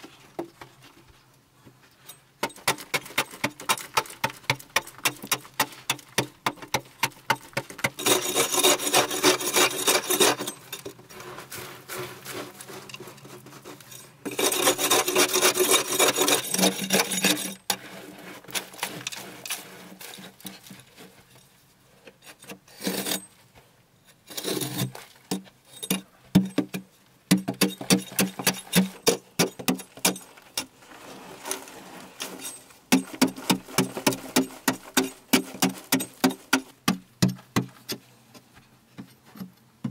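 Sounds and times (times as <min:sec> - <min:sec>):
digging tool scraping earth: 0:02.1 - 0:21.3, 0:22.2 - 0:23.4, 0:24.1 - 0:26.1, 0:27.6 - 0:38.1.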